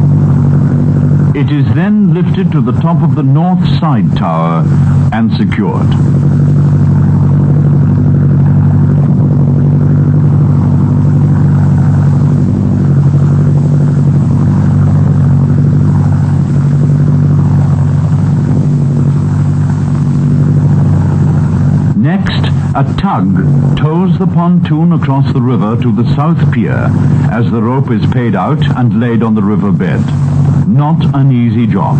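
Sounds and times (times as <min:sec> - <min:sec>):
engine drone: 0:00.0 - 0:31.9.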